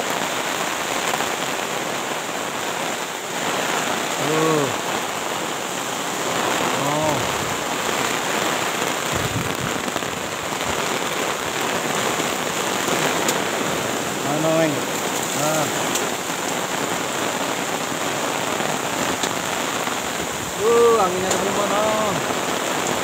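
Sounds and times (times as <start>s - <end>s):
gusting wind: 0.0s - 23.0s
heavy rain drumming on tarp: 0.0s - 23.0s.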